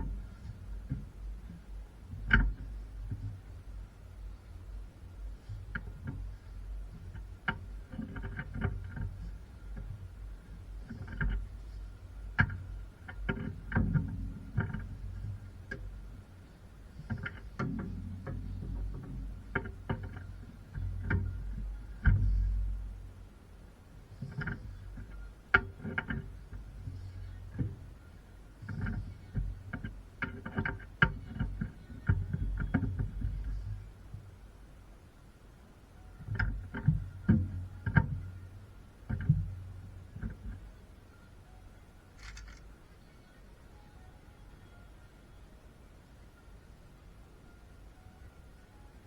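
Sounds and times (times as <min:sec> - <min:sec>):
faint steady whine: 0:00.0 - 0:49.0.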